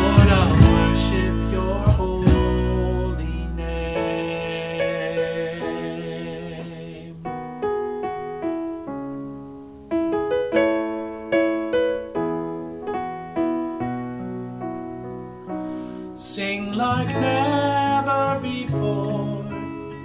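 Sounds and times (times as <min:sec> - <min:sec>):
piano playing chords: 0:00.0 - 0:20.0.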